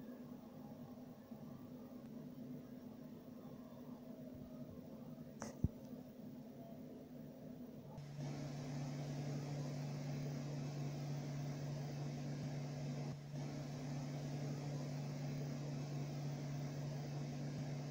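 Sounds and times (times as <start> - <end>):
low machine hum: 0.0 - 17.9.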